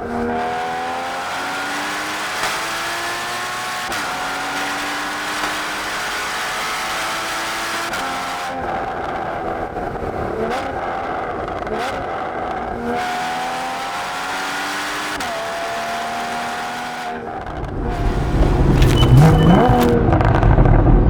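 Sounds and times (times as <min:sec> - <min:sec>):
car engine changing gears: 0:00.0 - 0:21.0.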